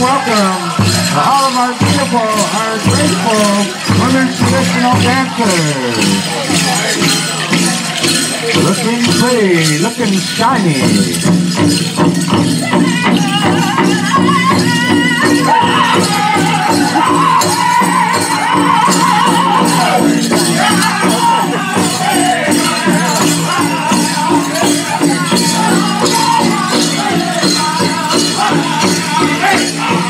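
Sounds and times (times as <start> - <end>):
drum group singing high wavering voices: 0.0 - 30.0
jingling regalia: 0.0 - 30.0
steady big drum beat: 0.0 - 30.0.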